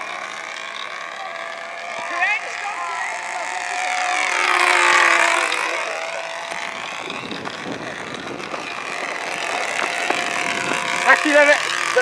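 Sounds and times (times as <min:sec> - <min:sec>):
model plane engine buzzing: 0:00.0 - 0:12.0.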